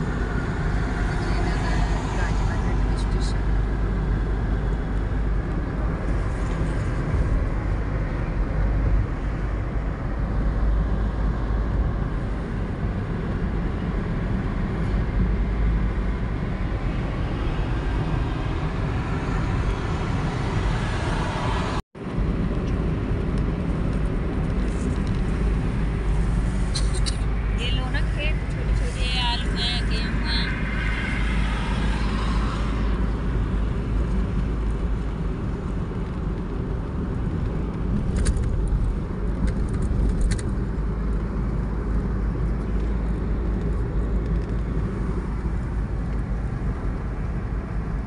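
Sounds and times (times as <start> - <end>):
engine and tyre rumble: 0.0 - 48.0.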